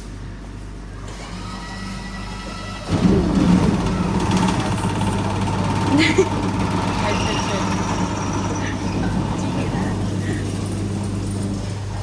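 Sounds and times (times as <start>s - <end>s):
motor humming: 1.0s - 12.0s.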